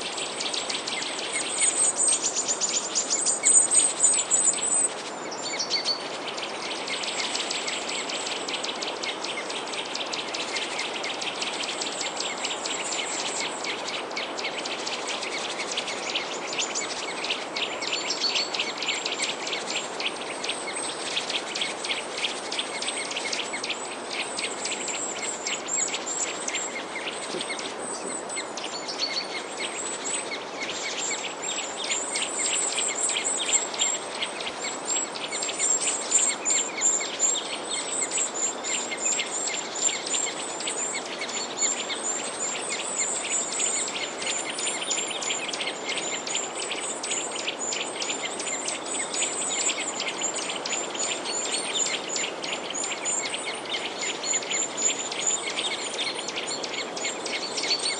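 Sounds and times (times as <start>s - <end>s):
small birds chirping: 0.0s - 57.9s
steady hiss: 0.0s - 57.9s.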